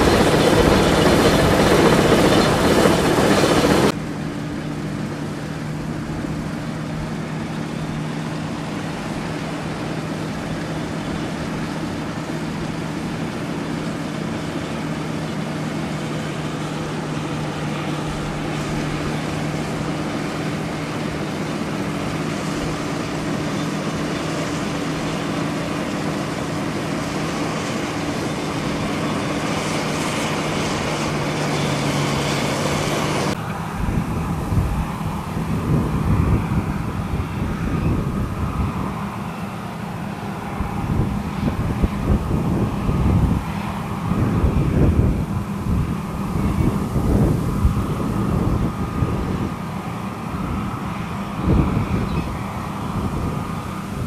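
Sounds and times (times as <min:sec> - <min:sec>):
combine harvester engine hum: 0:00.0 - 0:54.0
rushing noise of threshing: 0:00.0 - 0:54.0.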